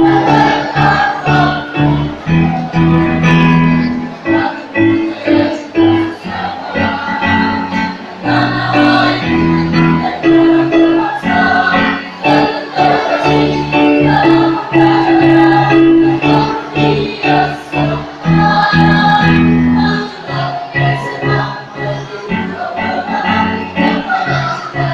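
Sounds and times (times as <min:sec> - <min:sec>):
choir singing with accompaniment: 0:00.0 - 0:24.9.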